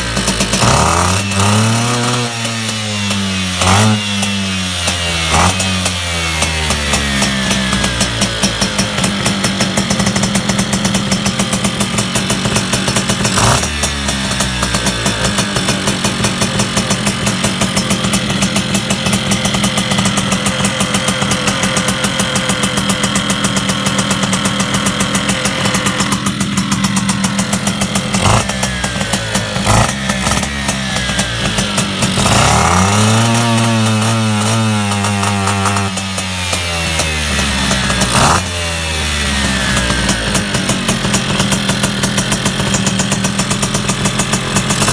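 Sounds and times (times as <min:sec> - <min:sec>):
moped engine running: 0:00.0 - 0:44.9.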